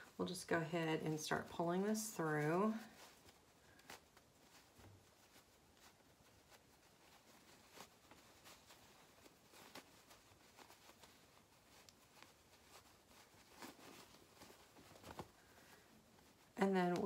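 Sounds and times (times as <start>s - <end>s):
fabric rustling: 0.0s - 17.0s.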